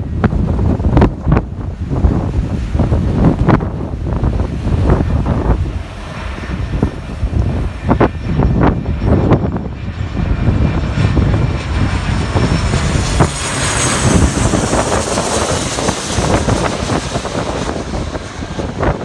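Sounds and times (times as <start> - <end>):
jet airliner passing: 0.0 - 19.0
wind buffeting microphone: 0.0 - 19.0.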